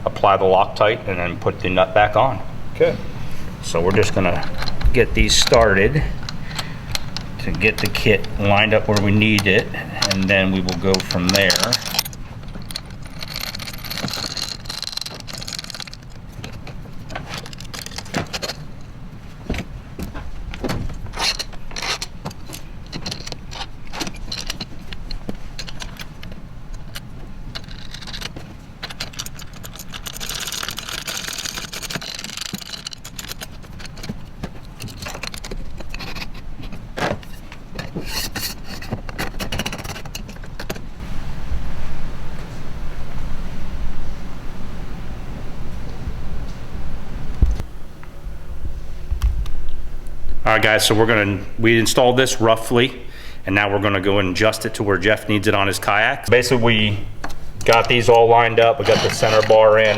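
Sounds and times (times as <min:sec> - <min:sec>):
steady low hum: 0:00.0 - 0:59.9
metal hardware clinking and scraping: 0:01.4 - 0:41.0, 0:49.4 - 0:59.9.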